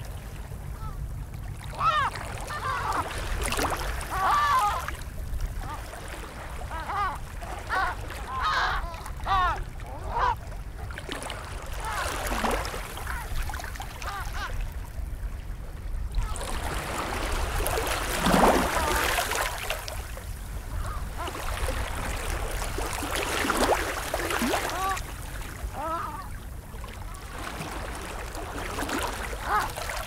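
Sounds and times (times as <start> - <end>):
wind and water rumble: 0.0 - 30.0.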